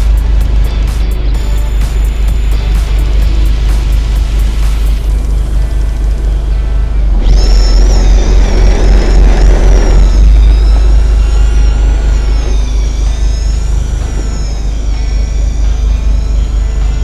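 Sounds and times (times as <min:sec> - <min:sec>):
boat engine rumbling: 0:00.0 - 0:17.0
high wavering whine: 0:00.0 - 0:17.0.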